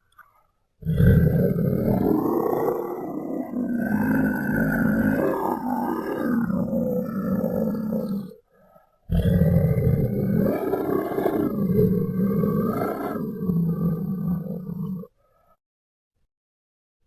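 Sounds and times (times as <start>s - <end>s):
deep rough monster growl: 0.8s - 8.4s, 9.1s - 15.1s.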